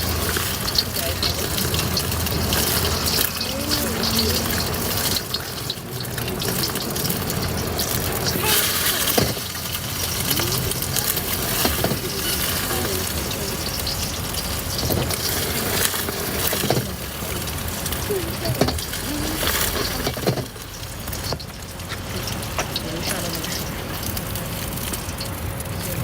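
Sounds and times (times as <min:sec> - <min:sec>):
food frying in oil: 0:00.0 - 0:26.0.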